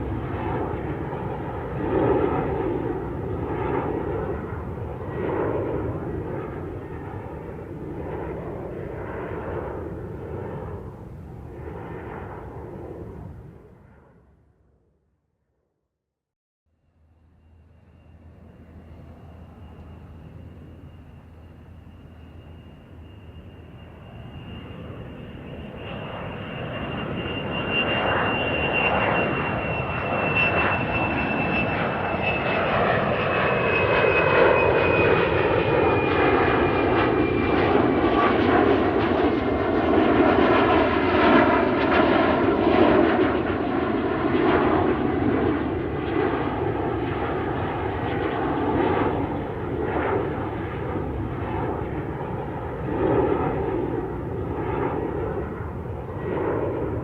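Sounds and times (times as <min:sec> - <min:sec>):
aeroplane engine whine and rush: 0:00.0 - 0:15.1, 0:16.7 - 0:57.0.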